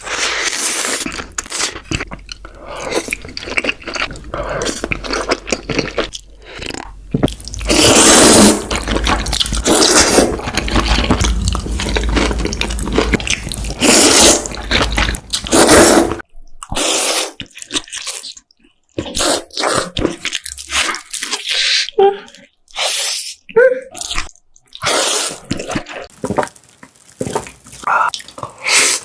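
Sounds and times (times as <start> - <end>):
slurping noodles: 0.0 - 18.4, 19.0 - 22.1, 24.0 - 26.4, 27.2 - 29.0
chewing: 0.0 - 22.8, 23.9 - 29.0.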